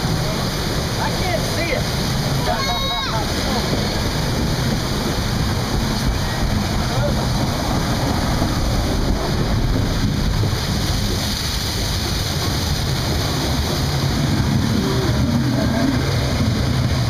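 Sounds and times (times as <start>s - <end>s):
rapids water rushing and splashing: 0.0s - 17.0s.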